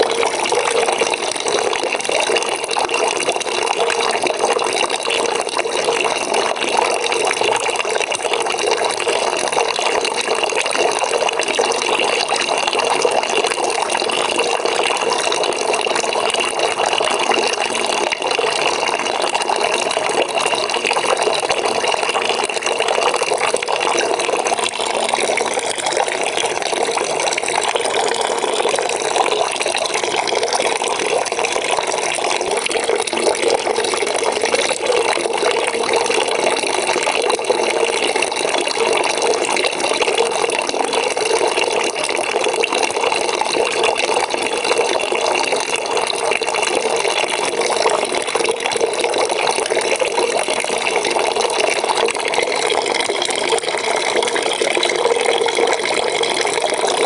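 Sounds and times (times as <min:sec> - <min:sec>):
water filling a bucket from a tap: 0:00.0 - 0:57.0.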